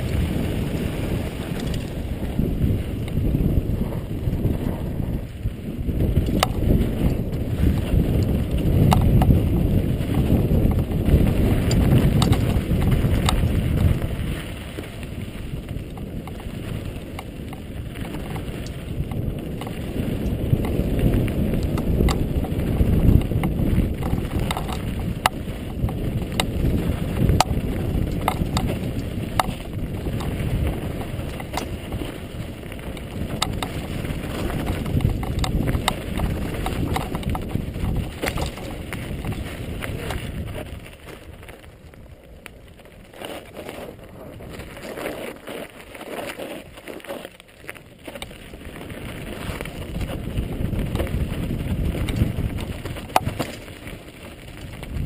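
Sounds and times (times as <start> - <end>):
bike tyres rumbling on dirt: 0.0 - 55.0
gravel and bike rattles: 0.0 - 55.0
wind buffeting microphone: 0.0 - 55.0.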